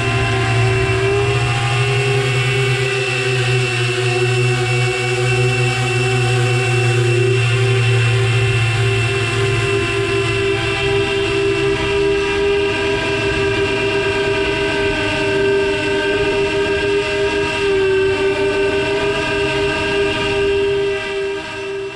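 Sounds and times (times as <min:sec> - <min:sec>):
drone propellers whining: 0:00.0 - 0:21.9.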